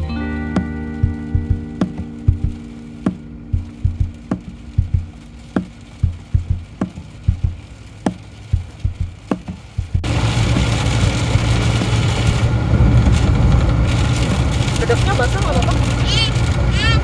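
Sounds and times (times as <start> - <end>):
rain pelting car roof: 0.0 - 17.0
road and rain noise rushing: 0.0 - 17.0.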